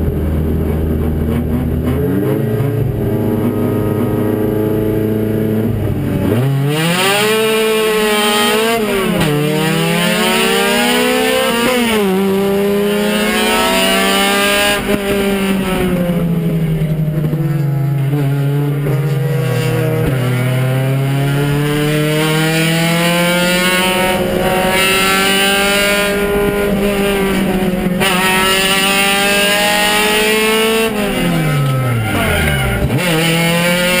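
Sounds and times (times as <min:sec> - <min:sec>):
race car engine at full power: 0:00.0 - 0:34.0.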